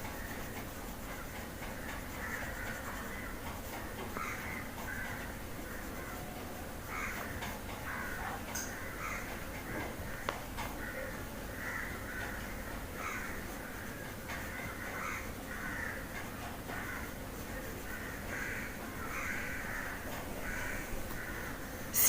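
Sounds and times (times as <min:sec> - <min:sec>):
crows cawing: 0:01.1 - 0:17.2, 0:17.8 - 0:22.0.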